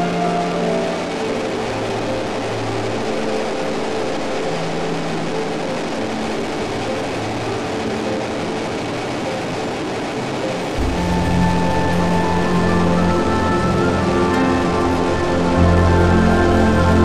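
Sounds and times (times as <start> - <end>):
helicopter rotor and engines: 0.0 - 17.0.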